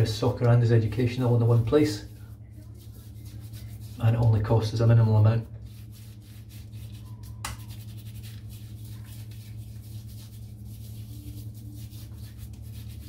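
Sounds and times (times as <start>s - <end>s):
low hum: 0.0s - 13.0s
shaving brush swishing in lather: 0.2s - 13.0s.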